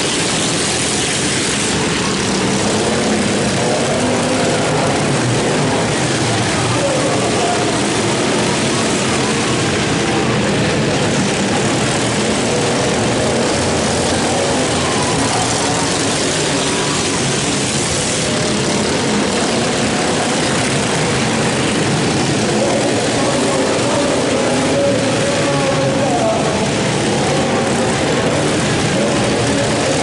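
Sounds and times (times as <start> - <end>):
lawn mower engines racing: 0.0 - 30.0.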